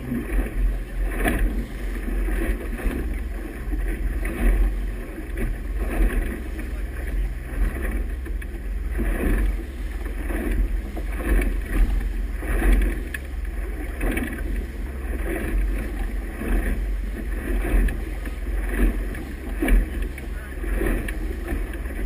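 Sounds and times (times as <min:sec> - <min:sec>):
motorboat engine drone: 0:00.0 - 0:22.0
water rushing and splashing: 0:00.0 - 0:22.0.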